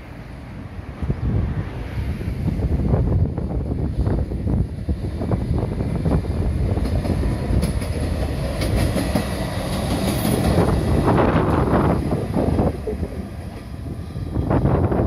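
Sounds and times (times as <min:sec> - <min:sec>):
diesel railcar passing: 0:00.0 - 0:15.0.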